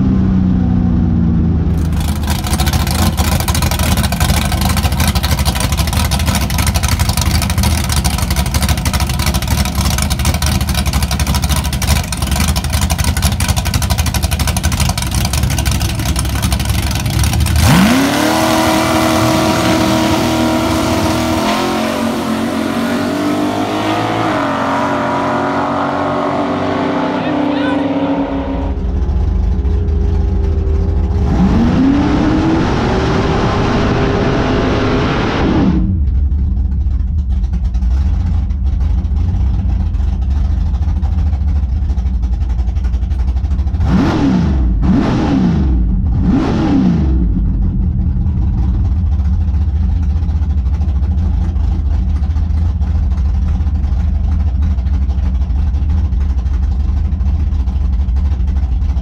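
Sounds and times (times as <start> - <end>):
race car engine revving and idling: 0.0 - 59.0.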